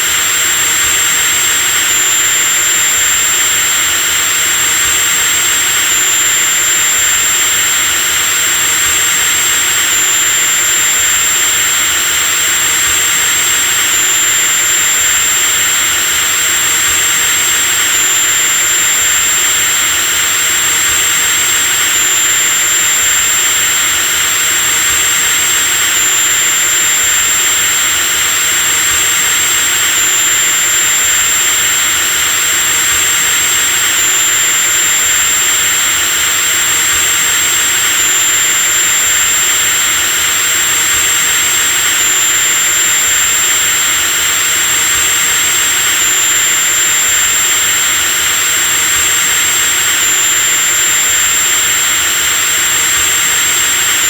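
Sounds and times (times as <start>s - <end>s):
electric drill whining: 0.0s - 54.0s.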